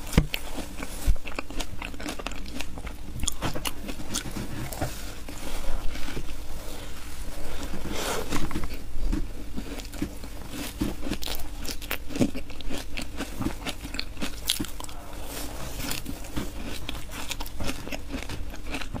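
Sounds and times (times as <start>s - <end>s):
person chewing crunchy ice: 0.0s - 7.0s, 7.6s - 19.0s.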